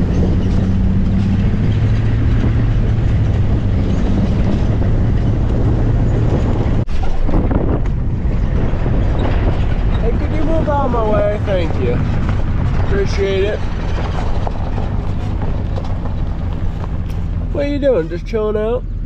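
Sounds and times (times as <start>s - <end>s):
wind rushing past: 0.0s - 17.6s
low hum: 0.0s - 19.0s
road and engine noise: 0.0s - 19.0s.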